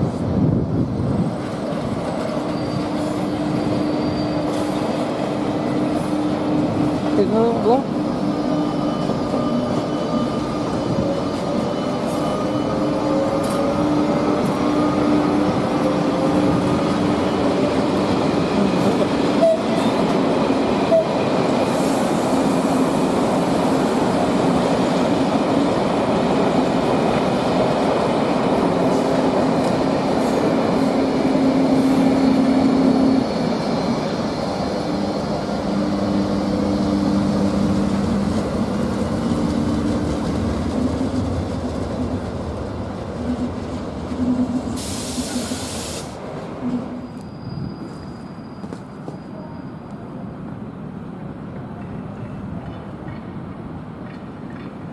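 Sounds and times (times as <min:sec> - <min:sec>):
train rolling rumble: 0:00.0 - 0:54.9.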